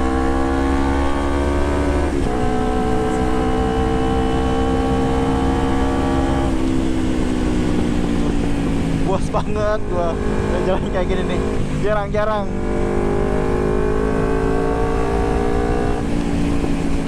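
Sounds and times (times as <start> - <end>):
motorcycle engine riding: 0.0 - 17.0.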